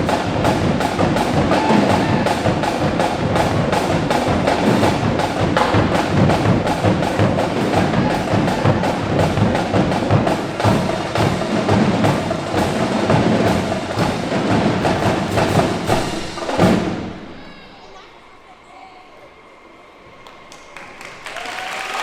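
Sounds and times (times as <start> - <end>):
marching drumline cadence: 0.0 - 22.0.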